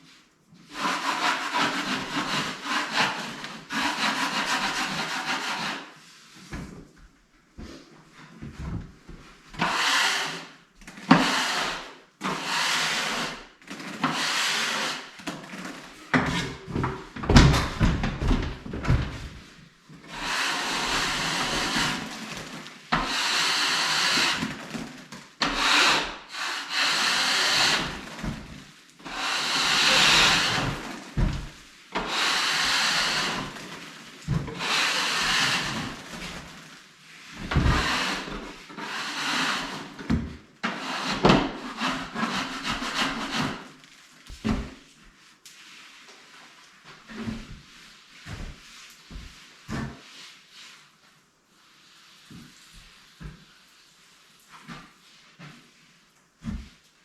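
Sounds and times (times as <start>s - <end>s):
hand scraper scraping ceiling: 0.6s - 6.6s, 8.4s - 50.9s.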